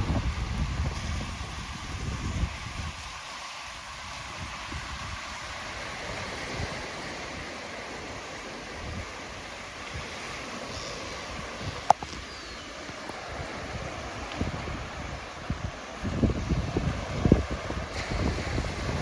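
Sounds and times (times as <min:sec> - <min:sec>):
ocean waves washing on beach: 0:00.0 - 0:19.0
wind on microphone: 0:00.0 - 0:19.0.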